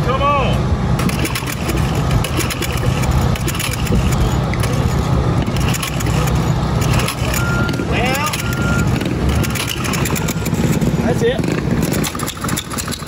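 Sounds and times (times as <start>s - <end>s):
single-cylinder engine running: 0.0s - 13.0s.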